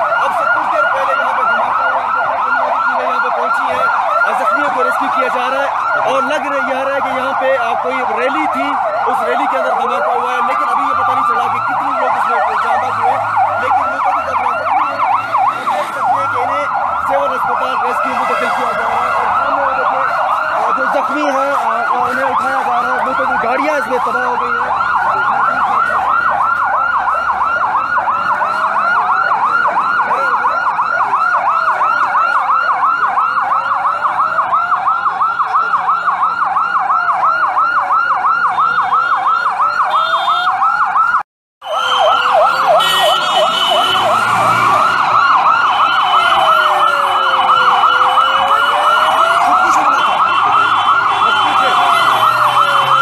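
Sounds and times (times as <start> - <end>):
siren wailing: 0.0 - 53.0
siren yelping: 0.0 - 53.0.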